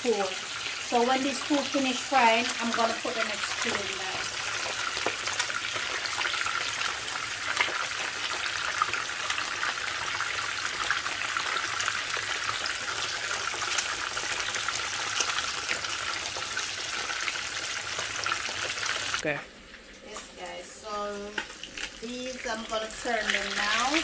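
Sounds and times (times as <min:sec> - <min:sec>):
fish frying in hot oil: 0:00.0 - 0:24.0
oil crackles and pops: 0:00.0 - 0:24.0.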